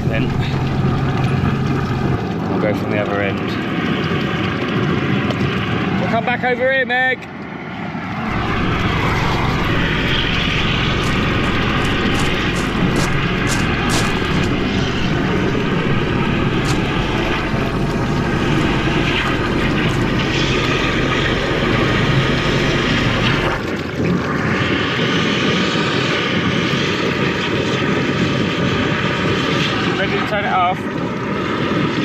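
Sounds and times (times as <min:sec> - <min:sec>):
drain jetter engine running: 0:00.0 - 0:06.7, 0:08.2 - 0:32.0.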